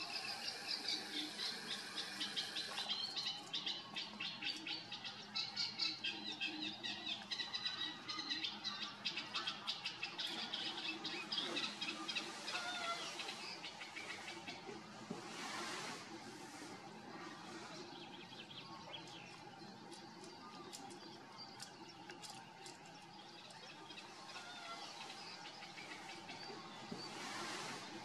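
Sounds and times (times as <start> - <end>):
small birds chirping and twittering: 0.0 - 28.0.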